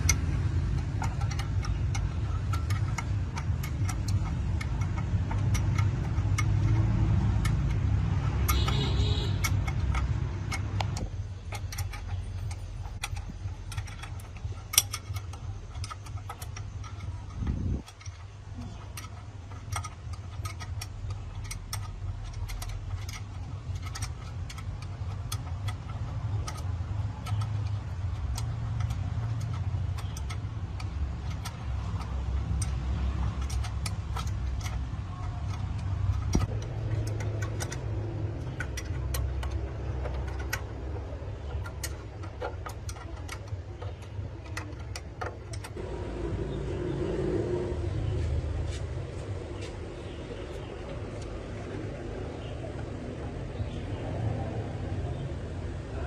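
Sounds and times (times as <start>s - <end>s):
metallic clicks and clinks: 0.0s - 45.9s
truck engine running: 0.0s - 56.0s.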